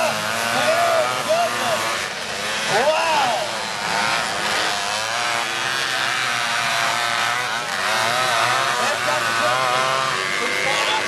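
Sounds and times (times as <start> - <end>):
buggy engines revving: 0.0 - 11.0.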